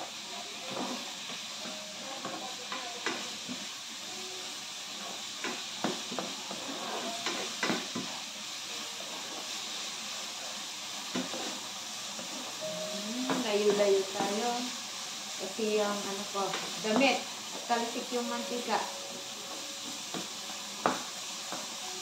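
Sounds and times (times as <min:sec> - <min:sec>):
pork sizzling in frying pan: 0:00.0 - 0:22.0.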